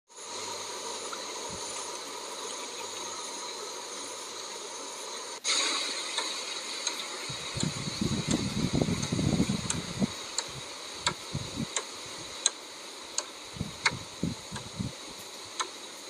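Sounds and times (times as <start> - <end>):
steady outdoor hiss: 0.1 - 16.0.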